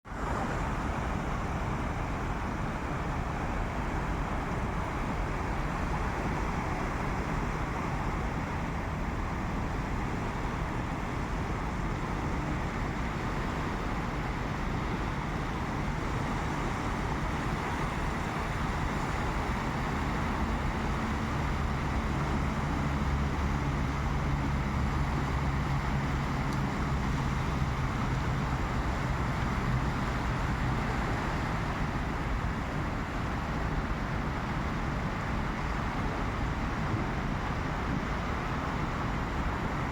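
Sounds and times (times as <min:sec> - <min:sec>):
engine low hum: 0:00.0 - 0:39.9
wind: 0:00.0 - 0:39.9
surf: 0:00.1 - 0:39.9.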